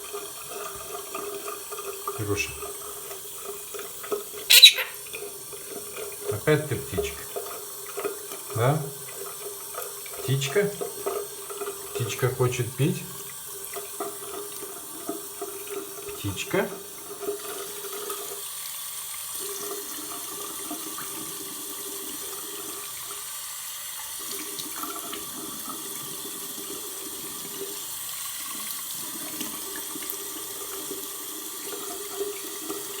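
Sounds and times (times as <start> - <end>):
tap water running into sink: 0.0 - 33.0.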